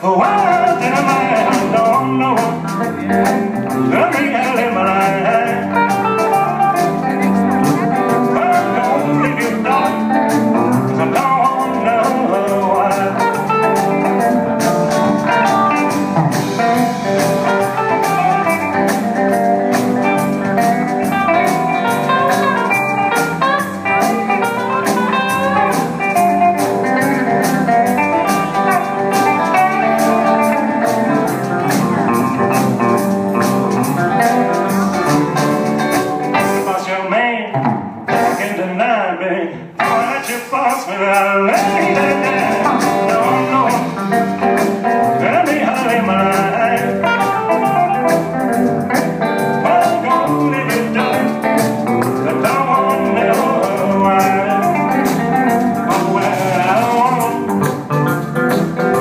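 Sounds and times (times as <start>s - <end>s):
electric guitar lead: 0.0s - 36.8s, 37.5s - 38.4s, 41.3s - 59.0s
rockabilly band playing: 0.0s - 59.0s.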